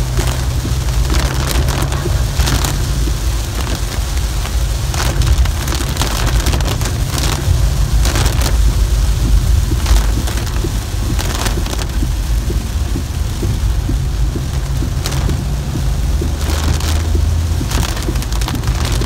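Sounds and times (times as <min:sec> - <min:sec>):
car driving on wet road: 0:00.0 - 0:19.0
heavy rain on car: 0:00.0 - 0:19.0.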